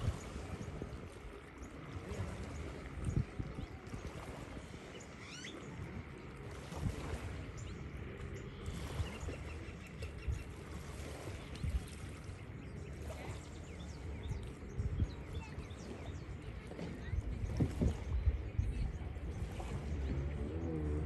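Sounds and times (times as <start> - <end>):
distant jet ski engine droning: 0.0 - 21.0
wind on microphone: 0.0 - 21.0.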